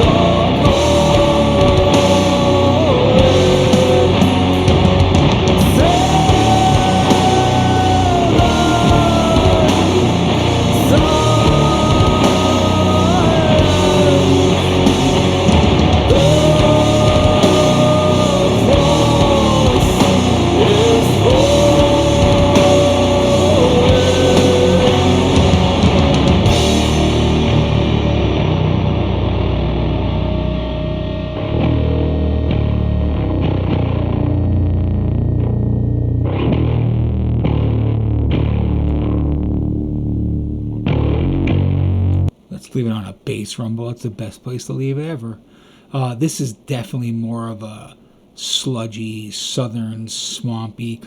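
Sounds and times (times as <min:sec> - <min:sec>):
doom metal music: 0:00.0 - 0:42.3.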